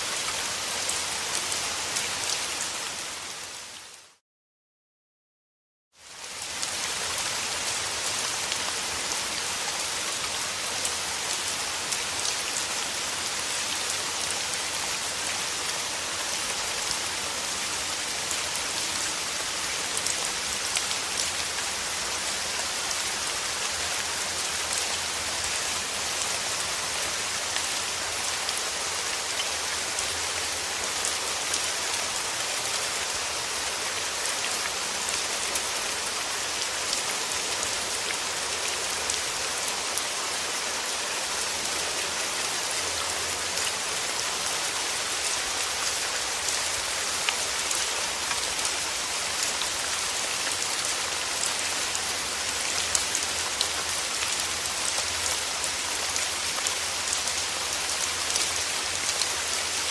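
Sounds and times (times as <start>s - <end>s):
steady rain hiss: 0.0s - 4.2s, 6.0s - 59.9s
rain pattering on a surface: 6.0s - 59.9s.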